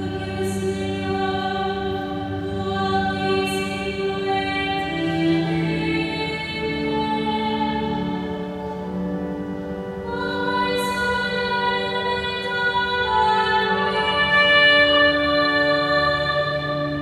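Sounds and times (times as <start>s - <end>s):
choir singing: 0.0s - 9.1s, 10.0s - 17.0s
organ chords: 0.0s - 17.0s.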